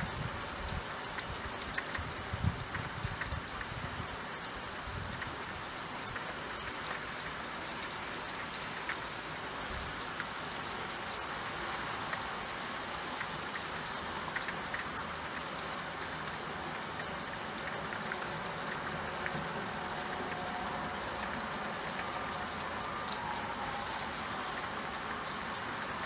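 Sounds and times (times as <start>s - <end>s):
faint drip ticks: 0.0s - 26.0s
steady rain falling: 0.0s - 26.0s.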